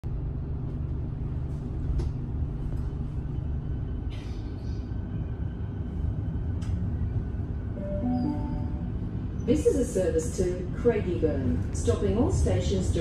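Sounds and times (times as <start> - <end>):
train motors and wheels rumbling: 0.0 - 13.0.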